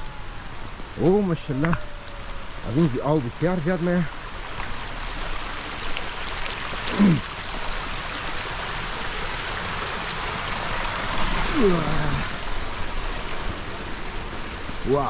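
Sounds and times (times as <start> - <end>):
running water and waterfalls: 0.0 - 15.0.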